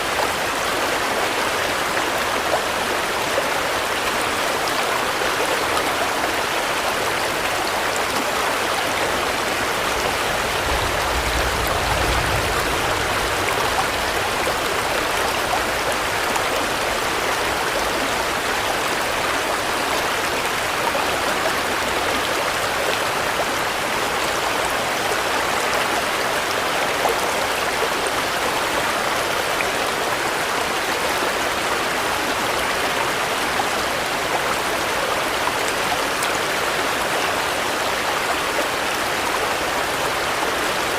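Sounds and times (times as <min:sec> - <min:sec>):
steady rain hiss: 0:00.0 - 0:37.7.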